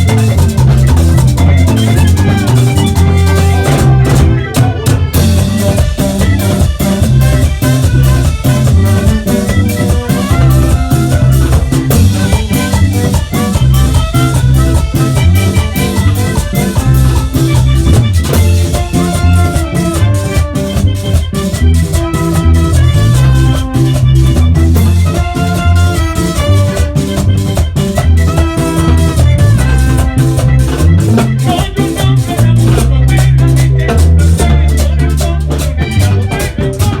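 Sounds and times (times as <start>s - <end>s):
accordion melody: 0.0s - 37.0s
bass line: 0.0s - 37.0s
percussion rhythm: 0.0s - 37.0s
steady drum beat: 0.0s - 37.0s.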